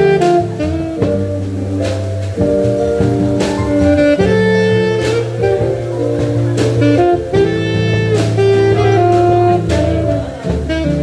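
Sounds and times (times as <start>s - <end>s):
keyboard accompaniment: 0.0s - 11.0s
saxophone jazz melody: 0.0s - 11.0s
walking double bass line: 0.0s - 11.0s.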